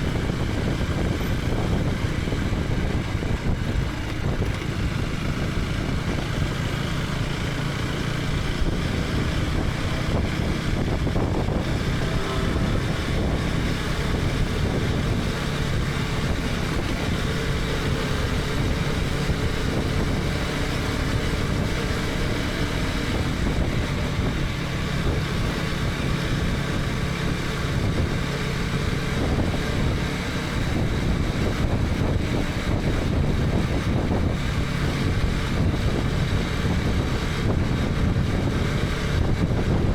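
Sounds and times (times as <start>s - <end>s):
motorcycle engine running: 0.0s - 39.9s
road and wind rush: 0.0s - 39.9s.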